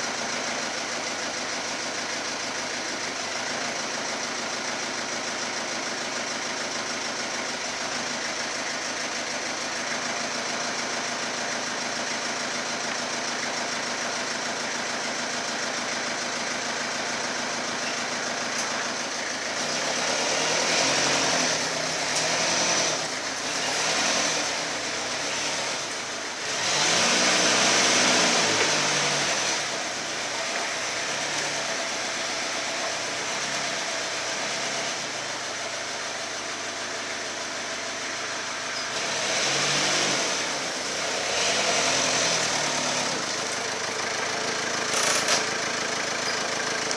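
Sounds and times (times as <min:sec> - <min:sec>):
forklift engine idling and revving: 0:00.0 - 0:46.9.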